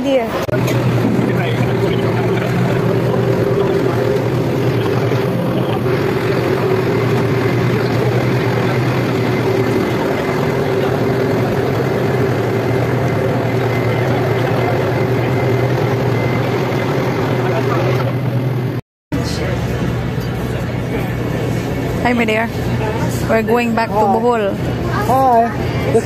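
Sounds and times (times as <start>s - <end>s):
large diesel engine idling: 0.1s - 26.0s.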